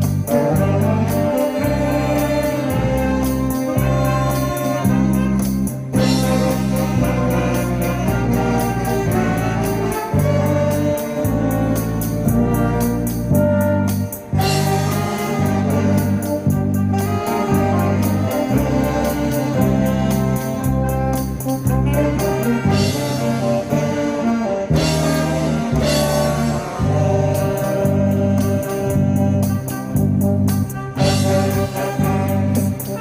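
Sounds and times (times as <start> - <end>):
bass line: 0.0 - 33.0
steady drum beat: 0.0 - 33.0
wind instruments playing melody: 0.0 - 33.0.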